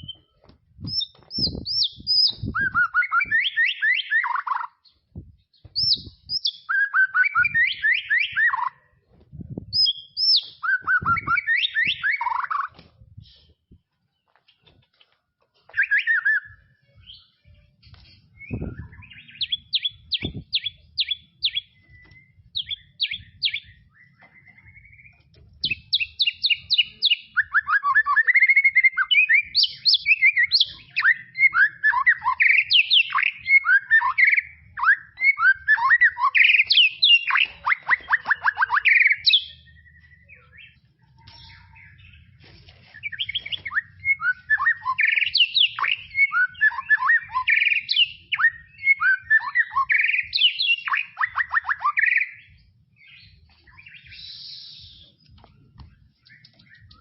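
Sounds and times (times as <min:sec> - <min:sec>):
songbird singing varied song: 0:00.0 - 0:15.1, 0:15.7 - 0:57.0.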